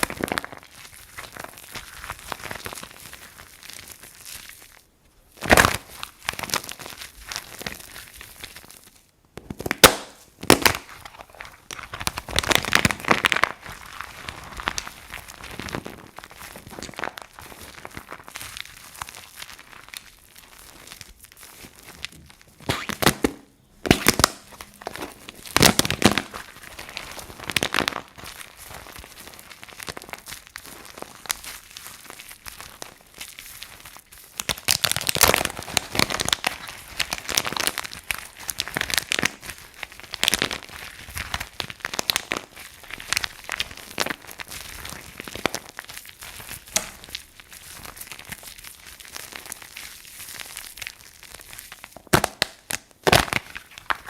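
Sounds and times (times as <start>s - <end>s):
dry soap crunching: 0.0s - 54.0s.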